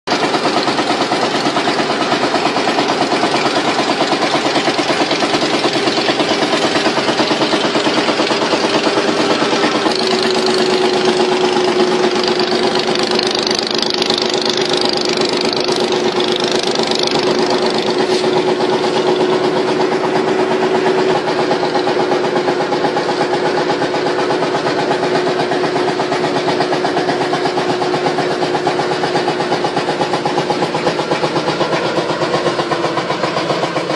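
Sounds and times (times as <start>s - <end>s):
boat engine running: 0.1s - 33.9s.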